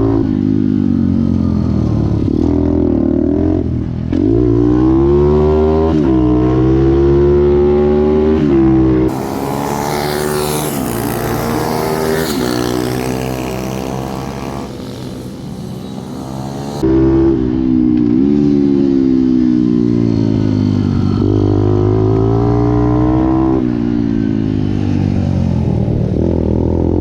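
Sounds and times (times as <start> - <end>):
pit bike engine racing: 1.2 - 27.0.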